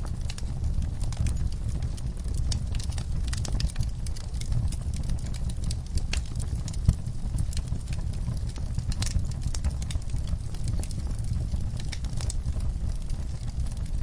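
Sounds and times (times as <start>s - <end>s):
low rumble of flames: 0.0s - 14.0s
wood fire crackling and popping: 0.0s - 14.0s.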